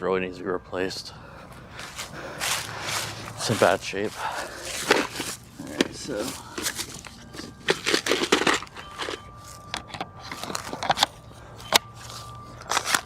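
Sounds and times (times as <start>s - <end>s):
dry crunching and rustling: 1.5s - 13.0s.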